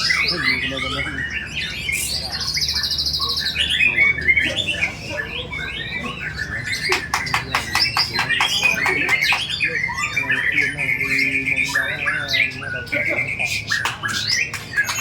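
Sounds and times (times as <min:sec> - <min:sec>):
bird trill: 0:00.0 - 0:15.0.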